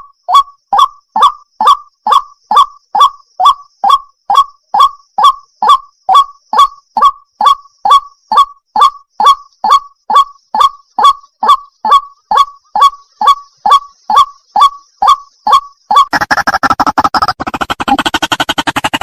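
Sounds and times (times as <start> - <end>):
bird calling harsh notes: 0.0 - 19.0.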